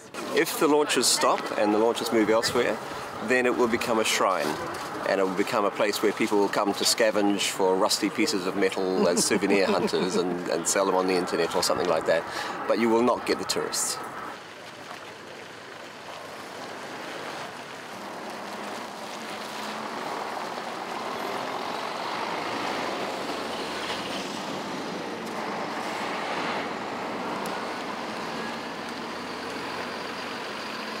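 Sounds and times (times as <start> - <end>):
road vehicle noise: 0.0 - 31.0.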